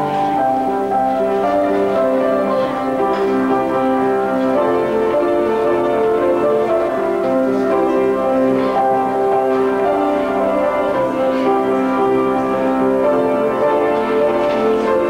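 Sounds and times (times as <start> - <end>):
keyboard music with chords: 0.0 - 15.0.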